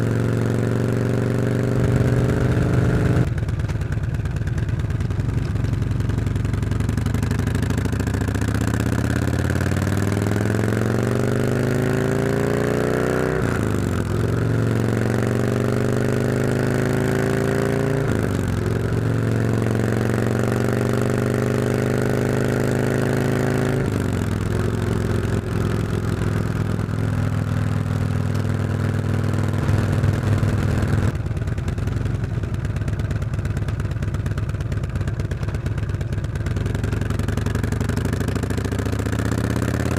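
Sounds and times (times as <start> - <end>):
motorcycle exhaust accelerating: 0.0 - 39.9.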